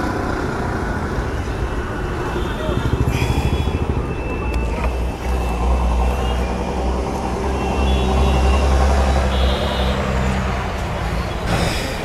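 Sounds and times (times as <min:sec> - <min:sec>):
street noise: 0:00.0 - 0:12.0
traffic engine hum: 0:00.0 - 0:12.0.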